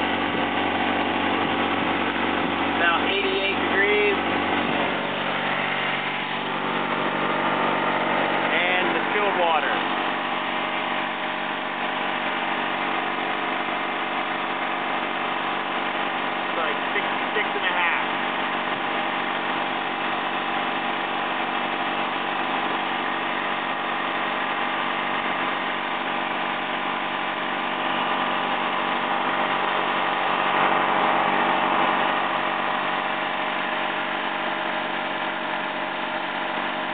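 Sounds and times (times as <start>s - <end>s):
gasoline engine running: 0.0s - 36.9s.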